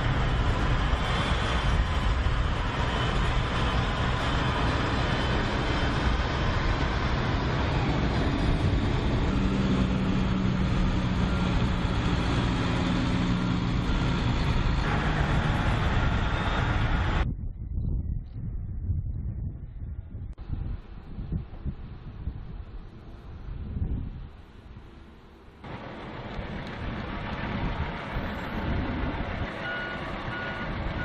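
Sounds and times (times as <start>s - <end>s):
road noise: 0.0s - 17.3s, 20.1s - 31.0s
truck diesel engines droning: 0.0s - 17.3s, 20.3s - 31.0s
deeper engine tone: 0.0s - 24.2s, 24.8s - 31.0s.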